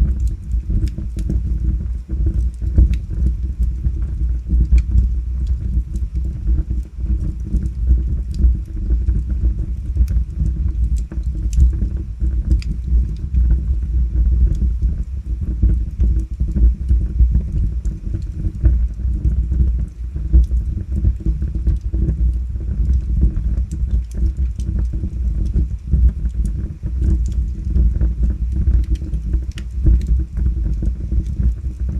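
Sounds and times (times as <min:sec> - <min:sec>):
low rumble of flames: 0:00.0 - 0:31.9
wood crackling and popping: 0:00.0 - 0:31.9.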